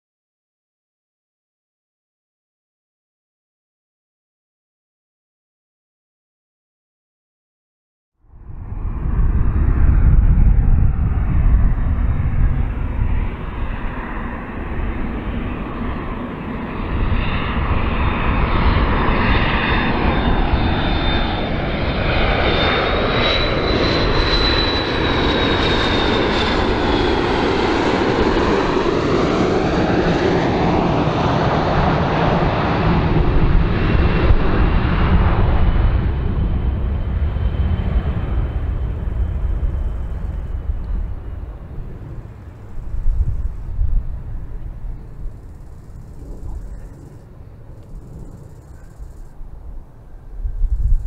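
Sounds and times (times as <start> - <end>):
jet airliner flying past: 8.2 - 51.0.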